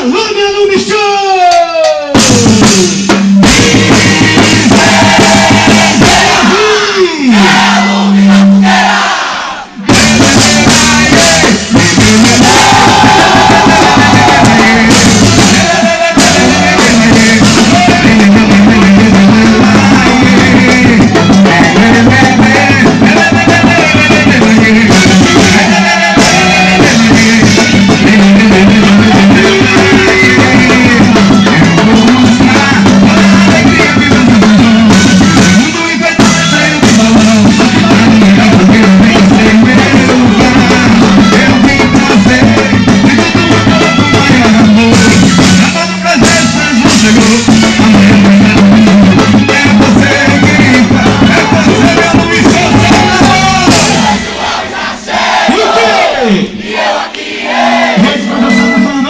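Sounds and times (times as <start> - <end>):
folk dance music with drum beat: 1.8 - 7.8, 9.8 - 56.1.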